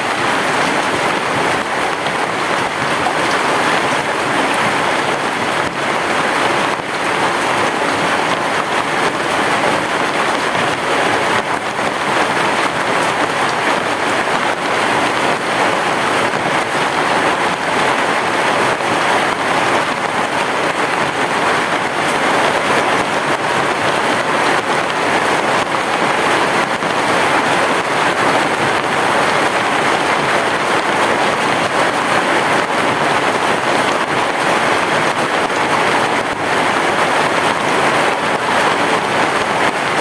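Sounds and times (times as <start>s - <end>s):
heavy rain on a roof: 0.0s - 40.0s.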